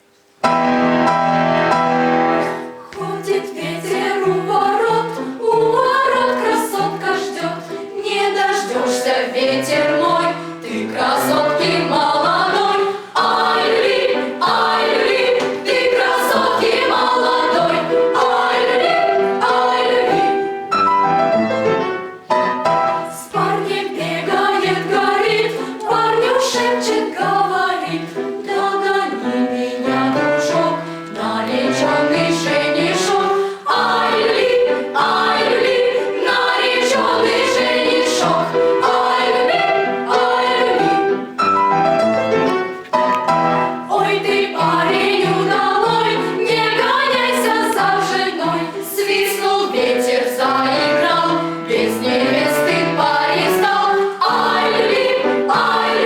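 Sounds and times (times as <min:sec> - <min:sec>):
choir singing in parts: 0:00.6 - 0:21.8, 0:22.4 - 0:56.0.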